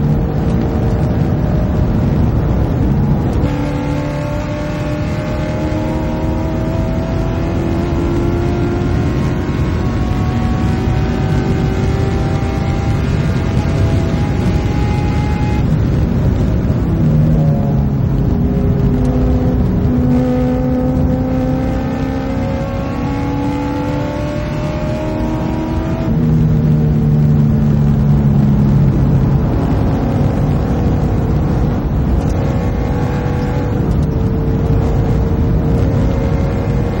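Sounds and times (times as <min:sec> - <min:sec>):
car engine revving in cabin: 0:00.0 - 0:37.0
constant low rumble: 0:00.0 - 0:37.0.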